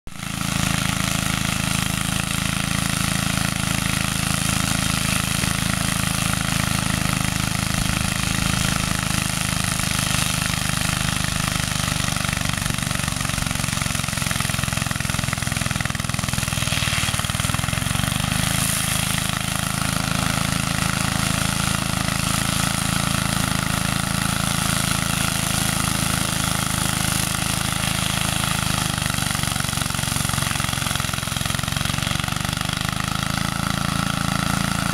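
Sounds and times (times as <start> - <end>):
mower engine running: 0.1 - 34.9.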